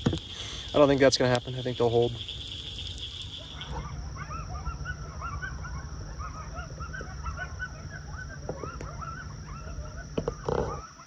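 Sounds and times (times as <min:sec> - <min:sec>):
coyotes yipping and howling: 0:00.2 - 0:11.0.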